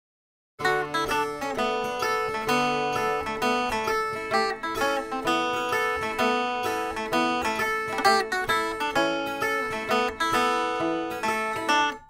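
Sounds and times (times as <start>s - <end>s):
acoustic guitar music: 0.6s - 12.0s.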